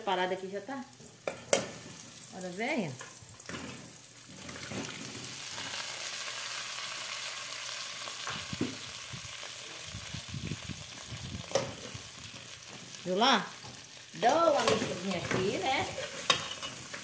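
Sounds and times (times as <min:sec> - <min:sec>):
oil sizzling in a pot: 0:00.0 - 0:17.0.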